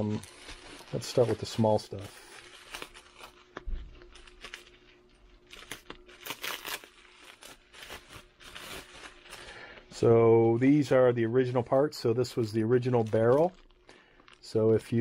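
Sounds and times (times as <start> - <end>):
bubble wrap crackling: 0.0 - 15.0.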